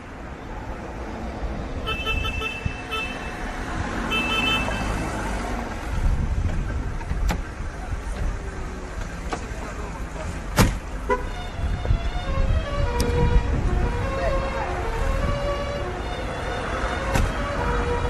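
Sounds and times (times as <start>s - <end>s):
traffic rumbling: 0.0s - 18.0s.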